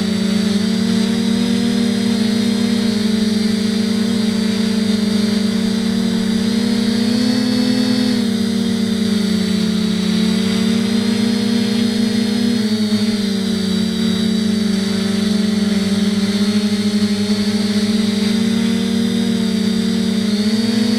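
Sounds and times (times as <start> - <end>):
quadcopter motors whining: 0.0 - 20.9.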